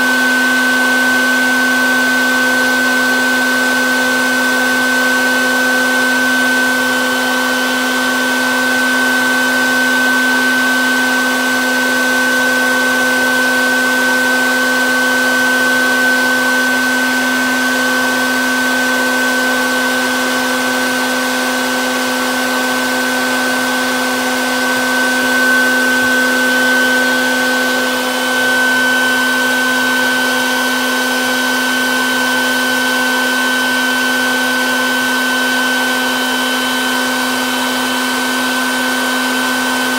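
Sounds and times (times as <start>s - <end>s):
vacuum hum with high whine: 0.0s - 39.9s.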